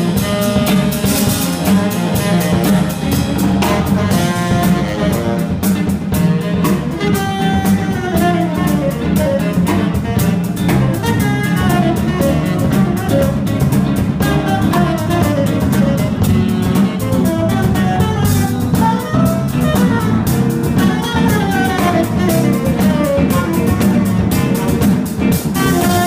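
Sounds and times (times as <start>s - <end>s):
bass line: 0.0s - 26.0s
drum kit beat: 0.0s - 26.0s
electric keyboard melody: 0.0s - 26.0s.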